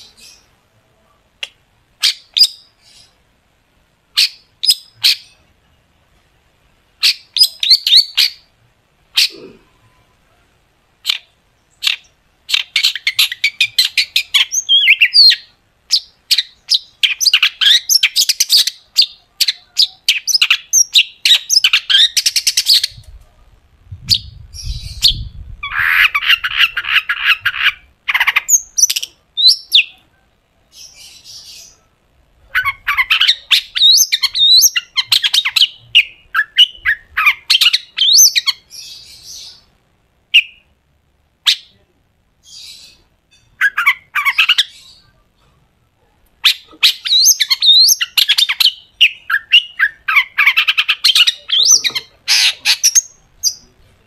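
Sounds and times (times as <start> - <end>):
bird chattering song: 1.4 - 3.2, 4.1 - 5.5, 7.0 - 10.2, 11.0 - 23.1, 24.0 - 39.7, 40.3 - 40.7, 42.4 - 45.2, 46.4 - 53.8.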